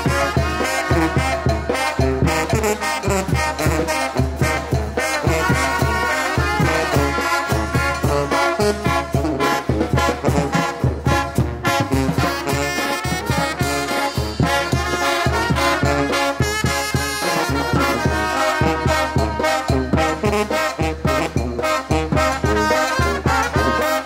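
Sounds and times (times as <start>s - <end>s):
brass band playing cumbia: 0.0s - 24.0s.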